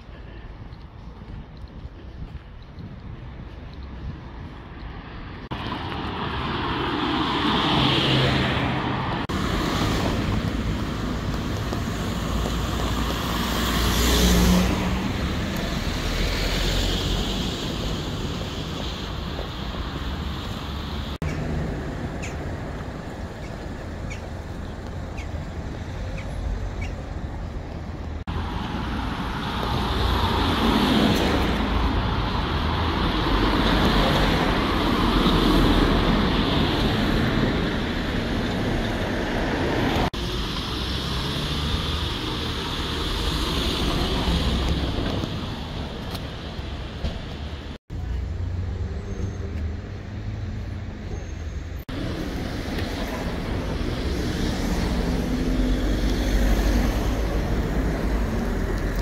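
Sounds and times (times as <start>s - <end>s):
cars driving past: 5.0s - 59.0s.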